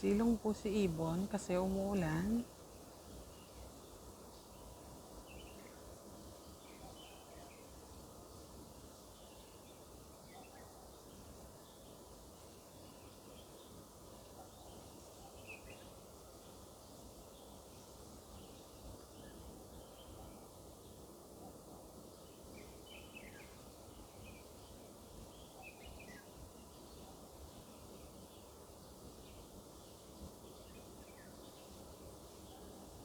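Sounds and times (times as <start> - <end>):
faint rain hiss: 0.0 - 33.0.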